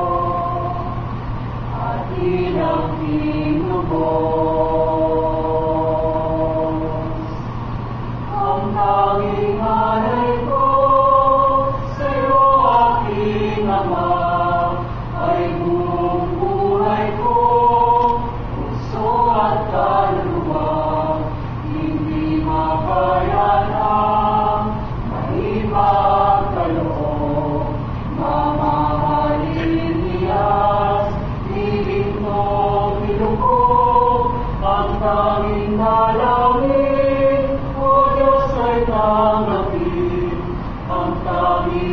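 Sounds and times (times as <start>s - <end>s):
mixed choir singing: 0.0s - 7.6s, 8.2s - 41.9s.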